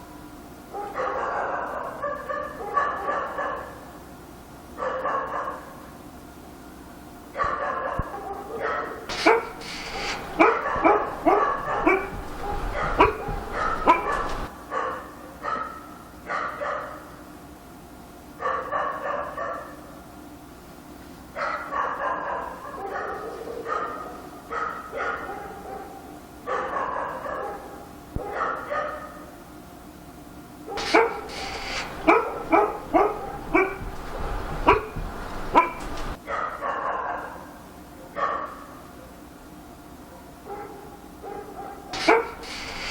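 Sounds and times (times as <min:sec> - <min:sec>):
dog barking: 0:00.7 - 0:03.9, 0:04.8 - 0:05.9, 0:07.4 - 0:17.2, 0:18.4 - 0:19.9, 0:21.4 - 0:29.3, 0:30.7 - 0:38.9, 0:40.1 - 0:42.9.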